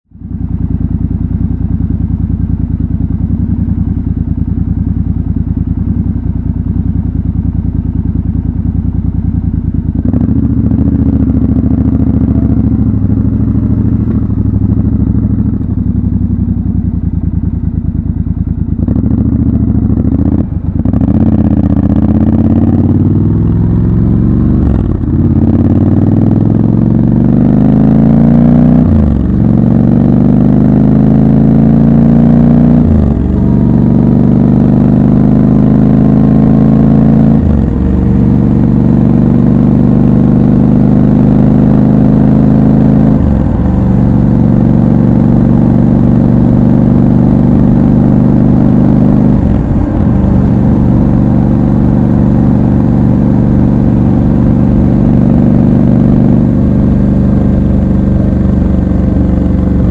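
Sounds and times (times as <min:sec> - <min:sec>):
motorcycle engine accelerating: 0:00.1 - 0:59.9.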